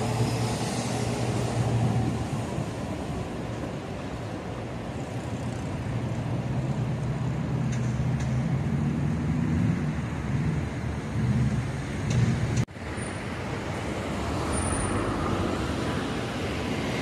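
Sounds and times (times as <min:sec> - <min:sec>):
low rumble of passing traffic: 0:00.0 - 0:17.0.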